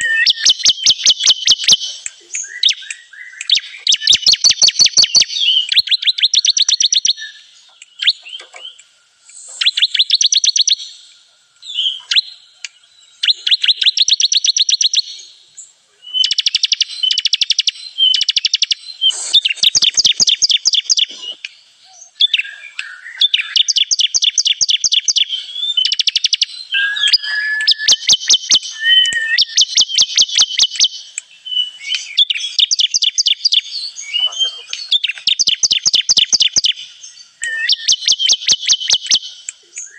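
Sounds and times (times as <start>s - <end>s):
bird singing rapid ticking notes: 0.0s - 15.4s, 16.1s - 39.9s.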